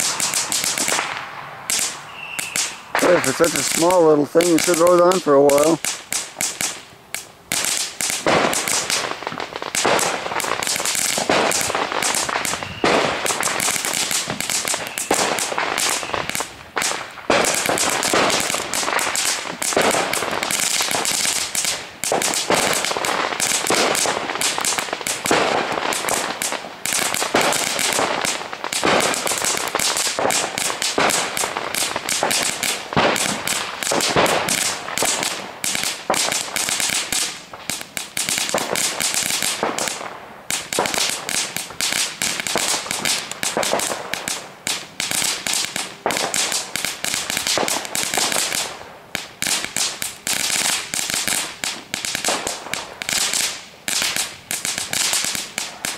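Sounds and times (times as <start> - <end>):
firework crackling: 0.0 - 55.9.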